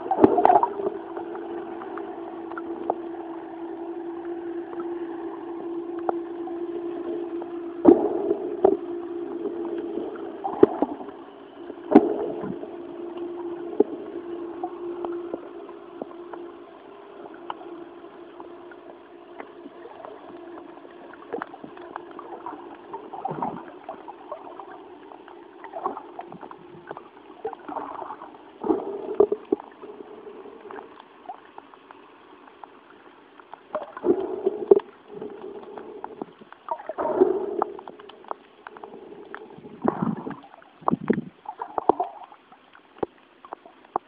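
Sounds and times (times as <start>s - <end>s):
sea water sloshing and gurgling: 0.0s - 44.0s
steady motor hum: 0.0s - 44.0s.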